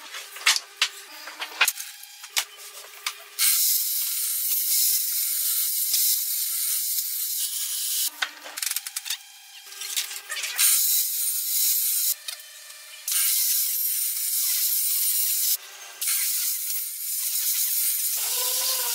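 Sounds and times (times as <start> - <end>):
table saw cutting wood: 0.0 - 18.9.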